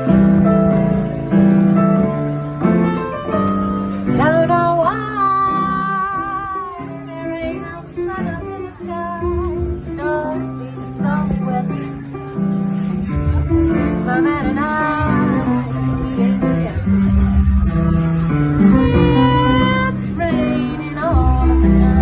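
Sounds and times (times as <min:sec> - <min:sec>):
slow blues piano: 0:00.0 - 0:22.0.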